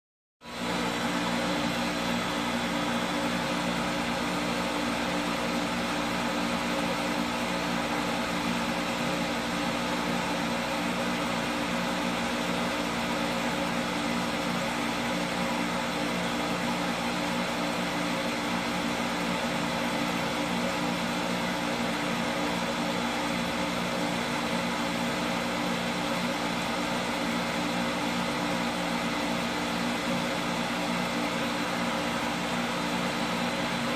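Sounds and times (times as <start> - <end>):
water pump motor humming: 0.4 - 33.9.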